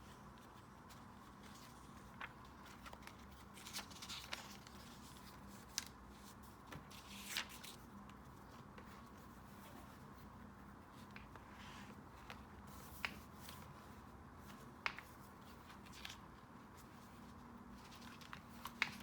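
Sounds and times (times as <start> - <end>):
faint steady hum: 0.0 - 19.0
paper rustling and crinkling: 0.0 - 19.0.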